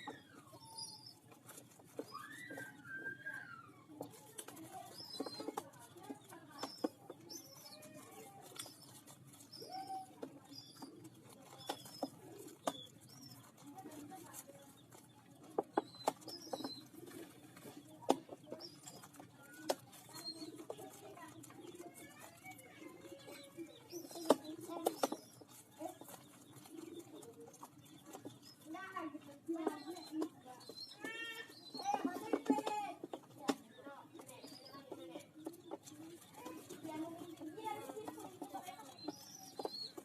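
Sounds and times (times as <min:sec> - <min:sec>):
pigeon squabs squeaking: 0:00.0 - 0:40.0
sharp clicks and taps: 0:03.9 - 0:40.0.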